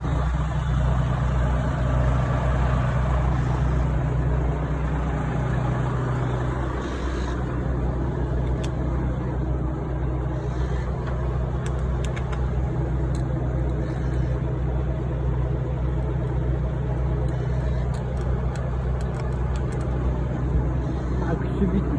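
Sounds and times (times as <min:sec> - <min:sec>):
truck diesel engine drone: 0:00.0 - 0:21.9.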